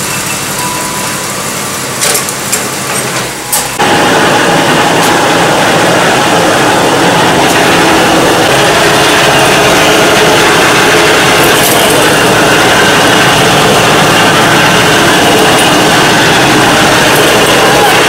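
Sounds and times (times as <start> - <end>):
differential mechanical growl: 0.0 - 18.0
engine running: 0.0 - 18.0.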